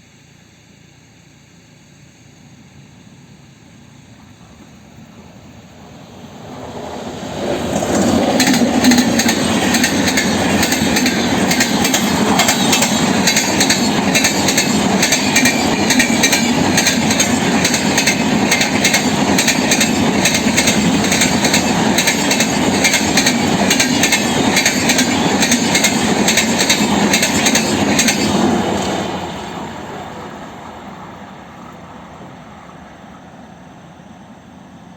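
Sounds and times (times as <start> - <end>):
passenger train rolling past: 2.5 - 34.9.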